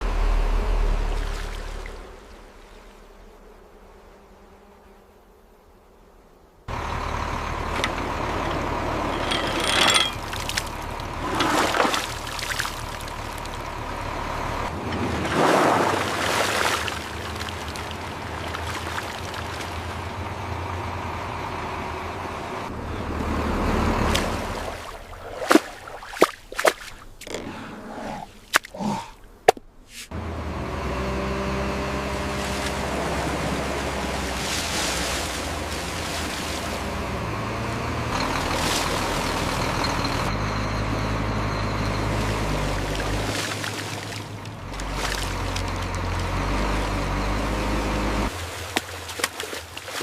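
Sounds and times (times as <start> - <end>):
steady engine noise: 0.0 - 3.5, 6.7 - 26.1, 30.1 - 50.0
low vehicle rumble: 0.0 - 3.8, 6.7 - 25.9, 27.0 - 50.0.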